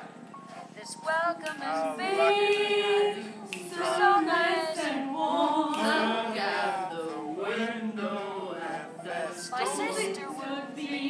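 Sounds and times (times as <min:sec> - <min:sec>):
women singing unaccompanied: 0:00.8 - 0:11.0.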